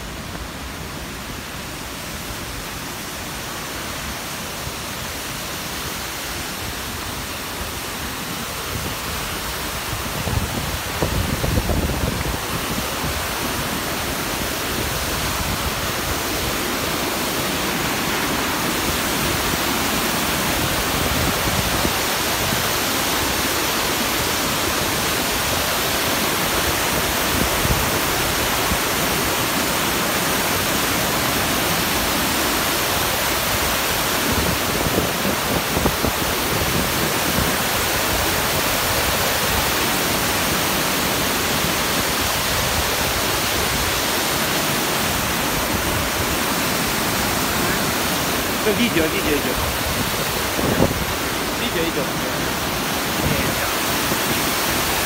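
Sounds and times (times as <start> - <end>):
water rushing over rocks: 0.0 - 55.0.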